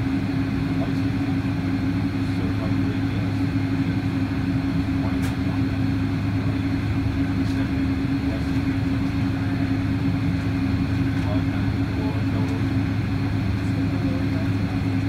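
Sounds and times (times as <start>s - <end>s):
aircraft cabin hum: 0.0s - 15.0s.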